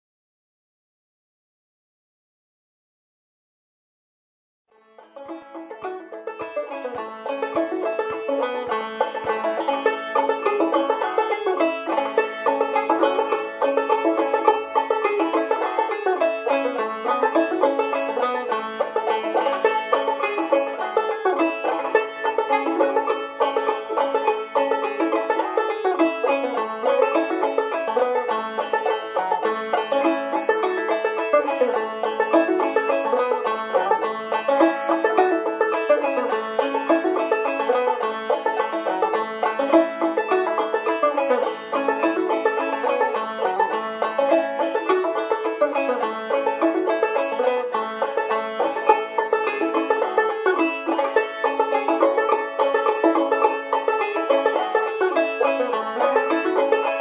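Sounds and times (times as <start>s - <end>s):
banjo plucking: 4.7s - 57.0s.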